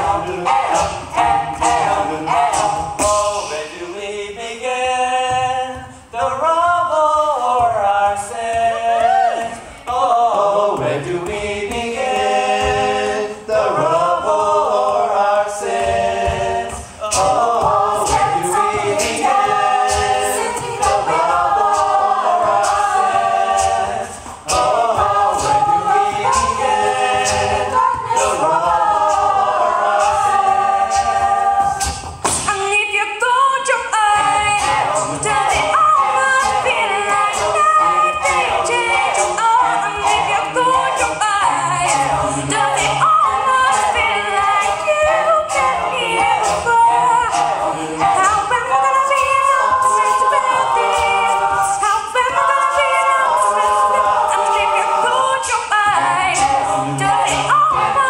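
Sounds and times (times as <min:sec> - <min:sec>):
a cappella group singing: 0:00.0 - 0:58.0
beatboxing vocal percussion: 0:00.0 - 0:58.0.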